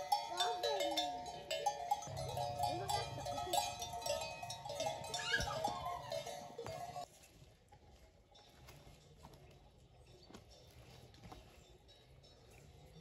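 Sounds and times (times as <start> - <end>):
cattle bells clanking: 0.0 - 13.0.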